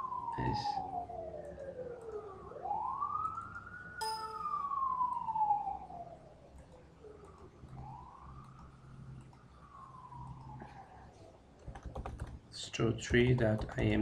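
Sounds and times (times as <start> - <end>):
emergency siren wailing: 0.0 - 11.5.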